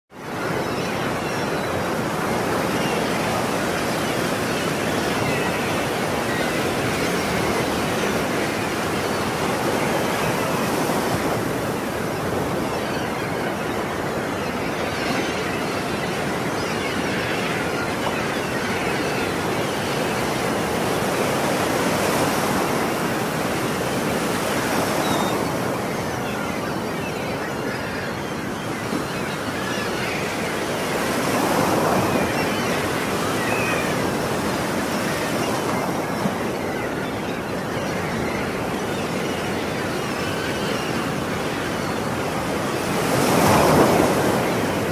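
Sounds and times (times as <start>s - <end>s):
ocean waves breaking: 0.2s - 44.9s.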